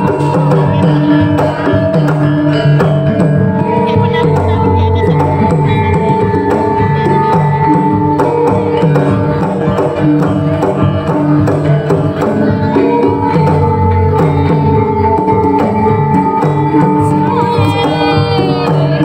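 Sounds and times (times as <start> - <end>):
hand drum strokes: 0.0 - 19.0
metallophones and gongs ringing: 0.0 - 19.0.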